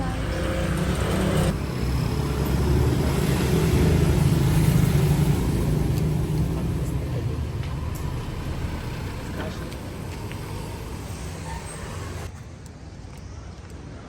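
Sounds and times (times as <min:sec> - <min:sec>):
vehicle engine rumbling: 0:00.0 - 0:12.3.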